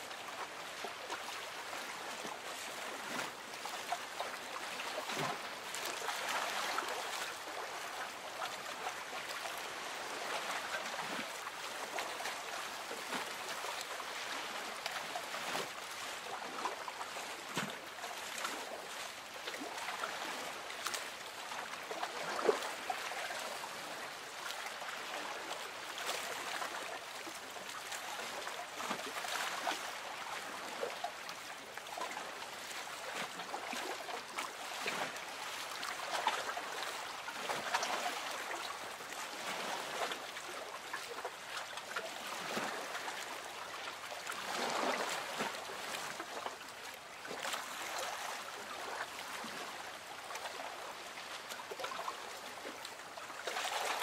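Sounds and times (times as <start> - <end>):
small water splashes: 0.0 - 54.0
water lapping against boat hull: 0.1 - 54.0.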